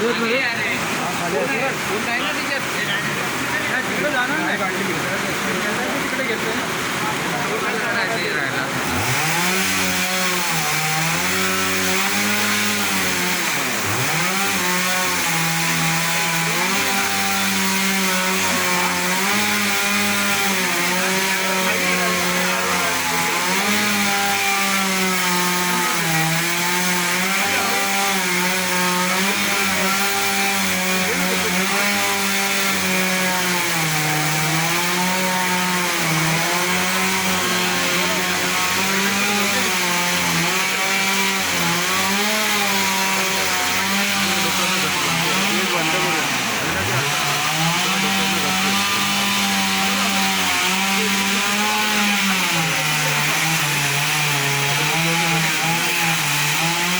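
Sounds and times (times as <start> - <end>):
chainsaw cutting a tree: 0.0 - 56.9.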